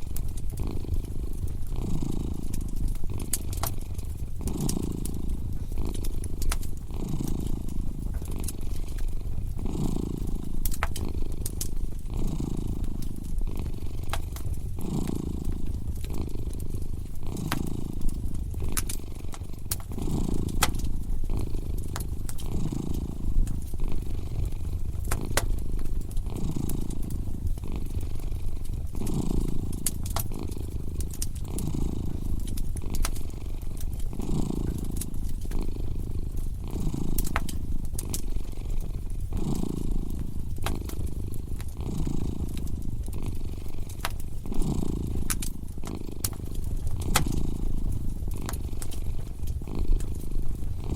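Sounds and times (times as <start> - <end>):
cat purring: 0.0 - 50.9
fire crackling and popping: 0.0 - 50.9.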